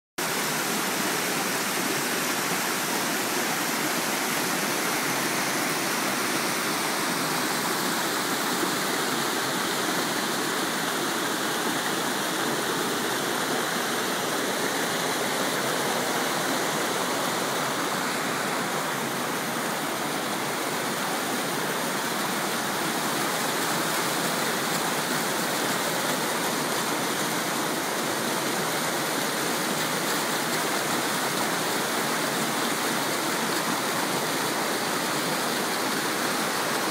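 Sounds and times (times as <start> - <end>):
water cascading over rocks: 0.2 - 36.9.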